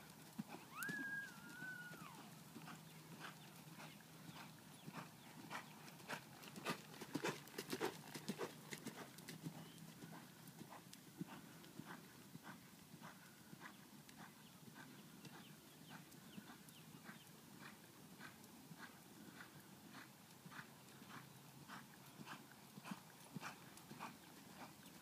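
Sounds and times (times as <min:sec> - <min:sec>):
horse hoofbeats on dirt: 0:00.0 - 0:25.0.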